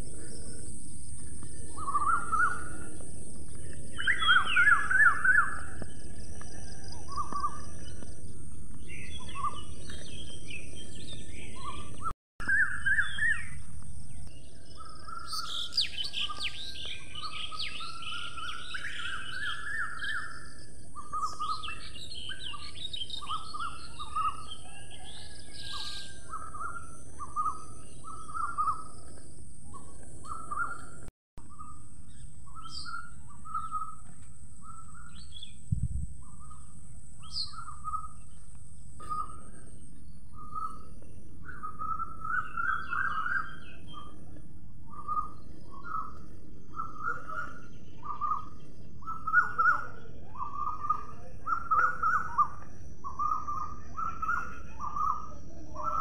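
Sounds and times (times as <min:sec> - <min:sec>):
birds singing and chirping: 0:00.0 - 0:56.0.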